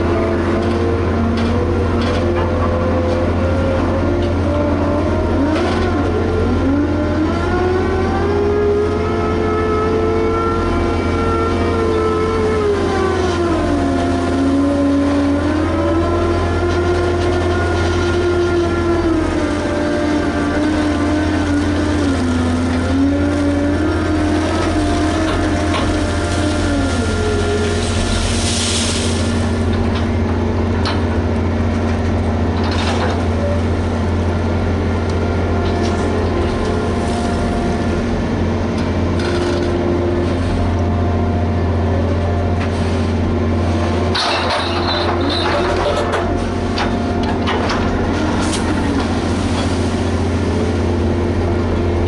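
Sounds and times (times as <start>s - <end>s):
excavator diesel engine humming: 0.0s - 52.0s.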